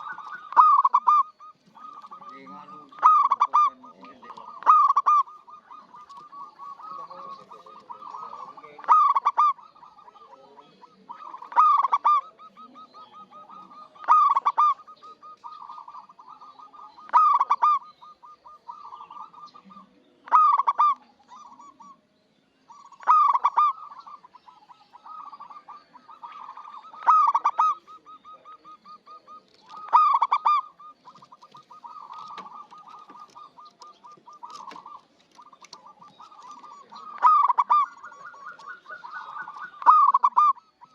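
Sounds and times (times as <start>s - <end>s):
soft trilled cooing: 0.0s - 22.1s, 22.7s - 40.9s
dove cooing: 0.0s - 40.9s.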